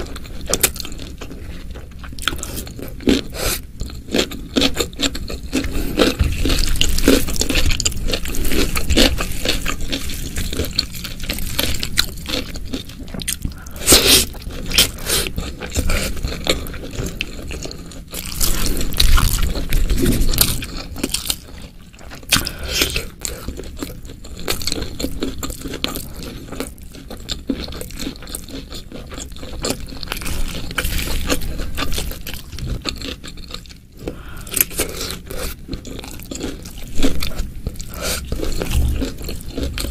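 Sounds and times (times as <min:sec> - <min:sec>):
person chewing and biting food: 0:00.0 - 0:39.9.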